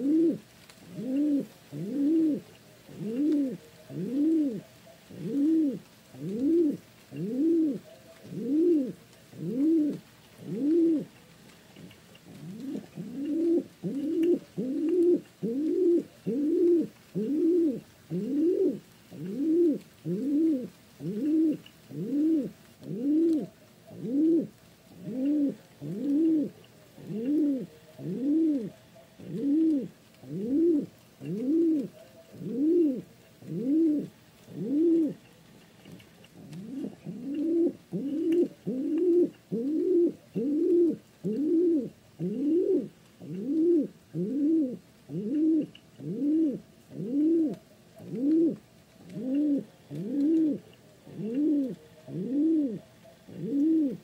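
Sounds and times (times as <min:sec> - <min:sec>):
pigeon cooing: 0:00.0 - 0:54.0.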